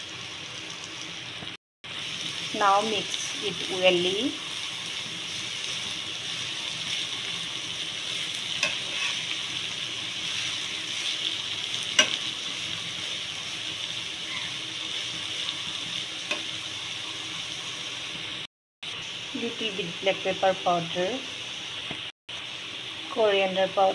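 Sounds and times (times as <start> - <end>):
cabbage sizzling in oil: 0.0 - 23.9.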